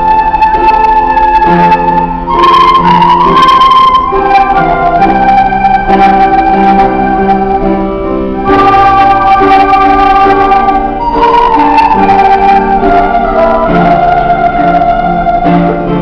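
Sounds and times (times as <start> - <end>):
instrumental music with sustained chords: 0.0 - 16.0.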